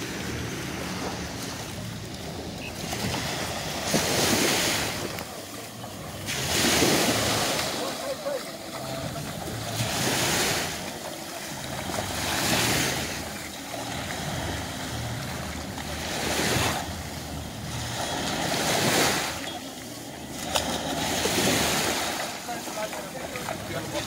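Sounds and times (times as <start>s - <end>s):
small waves breaking on sand: 0.0s - 24.0s.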